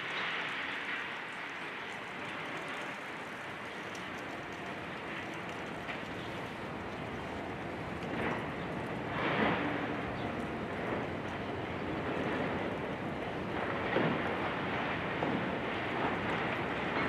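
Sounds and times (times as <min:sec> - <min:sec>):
demolition machinery noise: 0:00.0 - 0:17.0.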